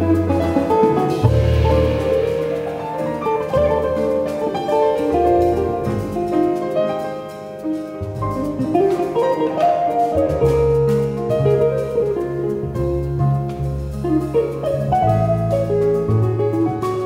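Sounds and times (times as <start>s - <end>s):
light drums: 0.0s - 17.0s
piano chords: 0.0s - 17.0s
walking double bass: 0.0s - 17.0s.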